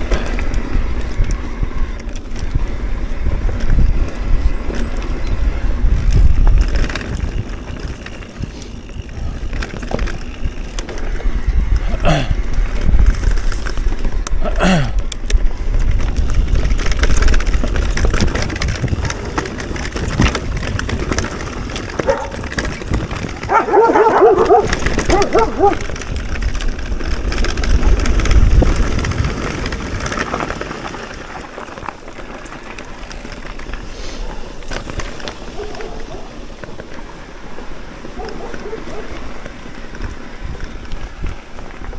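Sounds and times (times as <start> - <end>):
wind buffeting microphone: 0.0 - 14.5, 15.1 - 36.7
bike clicks and rattles: 0.0 - 41.9
rumbling tyre noise: 0.0 - 41.9.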